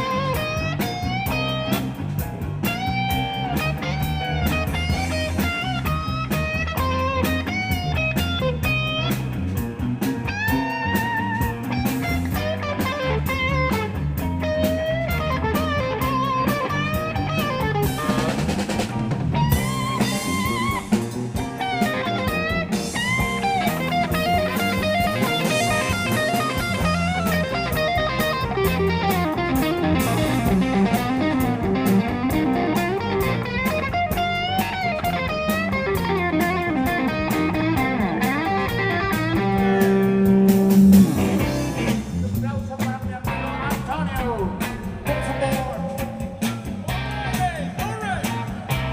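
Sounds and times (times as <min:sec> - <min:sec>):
bass guitar: 0:00.0 - 0:48.9
drum kit: 0:00.0 - 0:48.9
electric guitar lead: 0:00.0 - 0:48.9.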